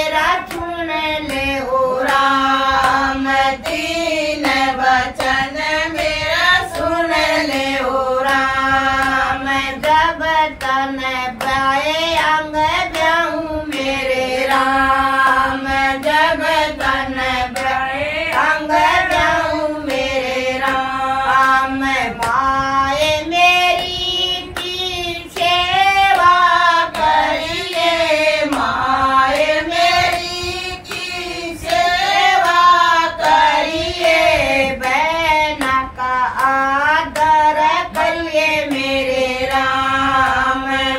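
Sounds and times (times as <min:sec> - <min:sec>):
hand claps: 0:00.0 - 0:40.9
women singing together: 0:00.0 - 0:40.9.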